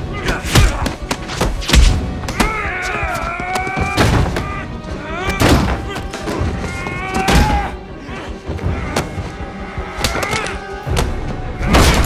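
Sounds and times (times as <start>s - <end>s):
dramatic background music: 0.0s - 12.0s.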